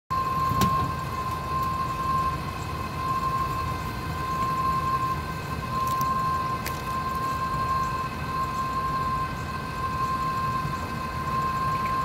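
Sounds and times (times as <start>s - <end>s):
high-pitched whine: 0.1s - 12.0s
low engine rumble: 0.1s - 12.0s.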